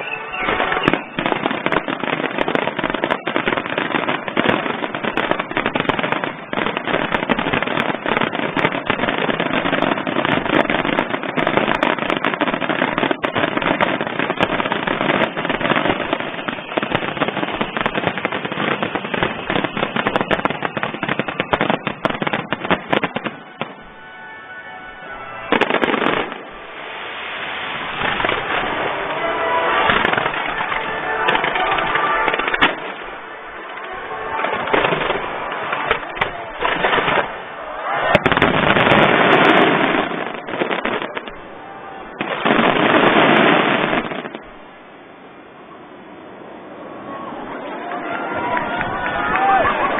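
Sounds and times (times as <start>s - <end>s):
fireworks bursts and crackles: 0.0s - 45.5s, 47.4s - 49.9s.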